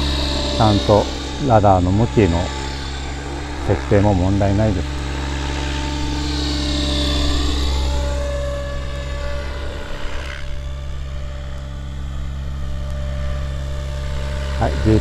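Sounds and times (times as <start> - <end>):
helicopter motor whine: 0.0 - 15.0
rotor humming: 0.0 - 15.0.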